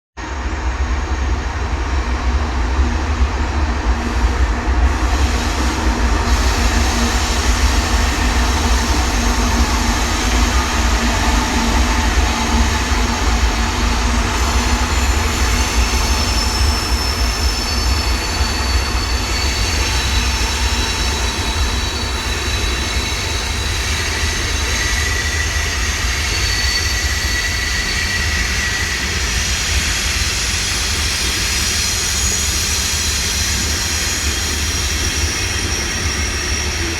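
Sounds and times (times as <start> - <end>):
train wheels rumbling on rails: 0.2 - 36.9
high wheel squeals: 5.1 - 36.9.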